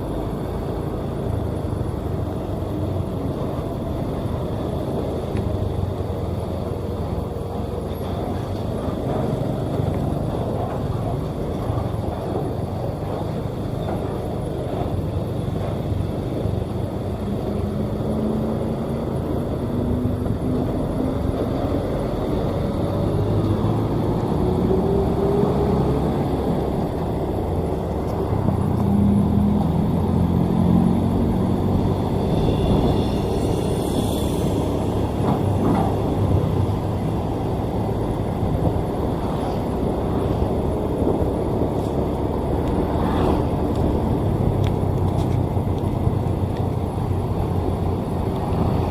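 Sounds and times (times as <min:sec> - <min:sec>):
traffic engines running: 0:00.0 - 0:48.9.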